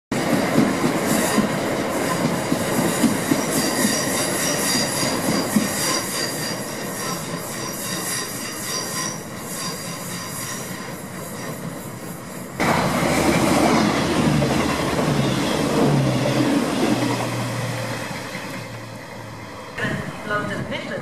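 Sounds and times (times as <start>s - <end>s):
train wheels clicking on track: 0.1s - 19.8s
train passing at speed: 0.1s - 21.0s.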